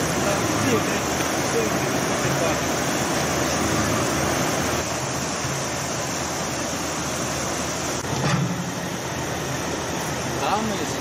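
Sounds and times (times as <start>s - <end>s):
excavator engine running: 0.0s - 11.0s
floodwater rushing: 0.0s - 11.0s.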